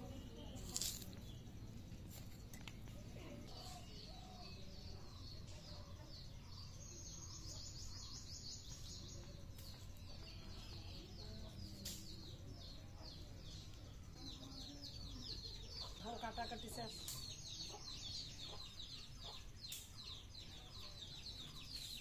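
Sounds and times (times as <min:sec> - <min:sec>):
small bird chirping: 0:00.0 - 0:22.0.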